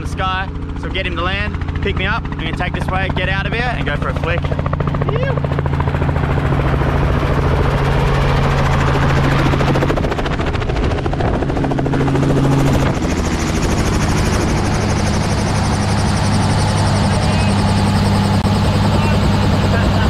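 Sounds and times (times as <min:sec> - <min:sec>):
piston engine drone: 0:00.0 - 0:20.0.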